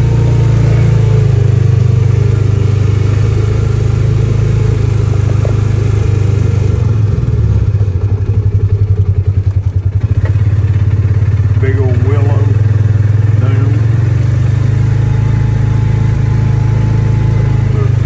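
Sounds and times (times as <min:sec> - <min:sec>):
small vehicle engine running: 0:00.0 - 0:18.0.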